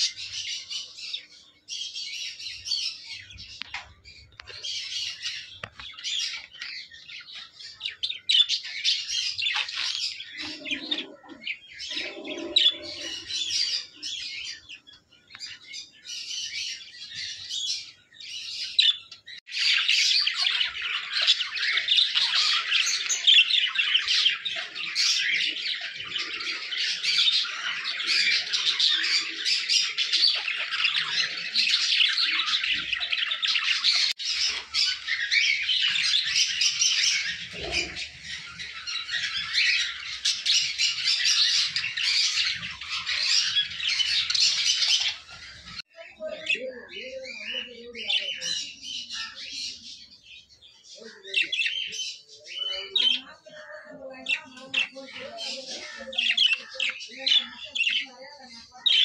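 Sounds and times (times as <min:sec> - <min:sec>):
budgerigars chirping and squawking: 0:00.0 - 0:59.0.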